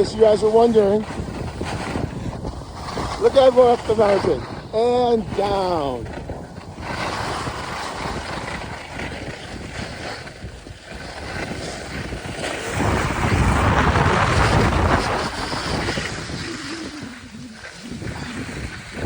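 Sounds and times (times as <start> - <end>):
skis scraping on snow: 0.0 - 19.0
wind on microphone: 0.0 - 19.0.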